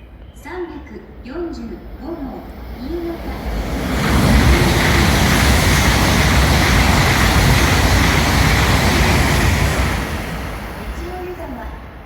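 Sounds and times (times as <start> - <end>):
high-speed train rushing past: 0.0 - 12.0.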